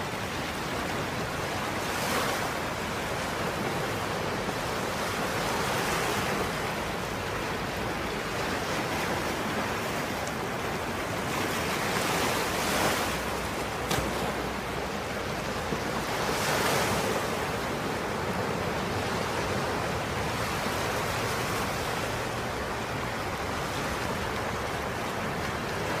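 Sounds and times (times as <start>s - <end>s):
small waves on sandy beach: 0.0s - 26.0s.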